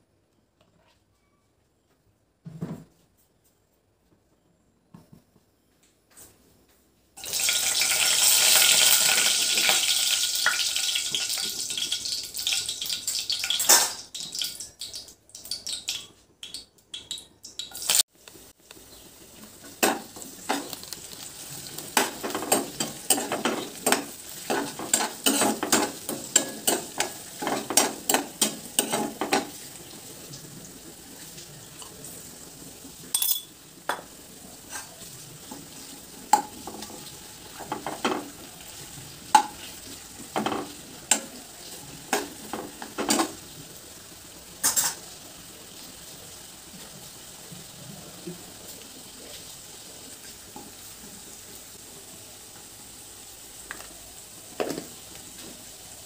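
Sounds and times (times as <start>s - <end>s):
onions sizzling in hot oil: 7.2s - 56.0s.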